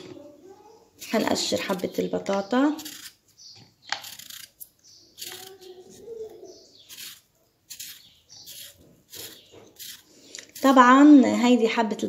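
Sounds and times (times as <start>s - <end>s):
vegetable peeler scraping potato: 1.0s - 11.1s.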